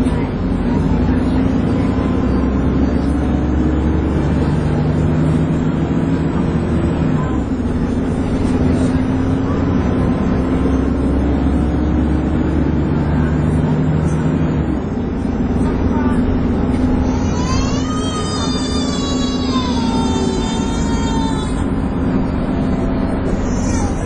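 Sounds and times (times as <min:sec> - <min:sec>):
bus engine whine: 0:00.0 - 0:24.0.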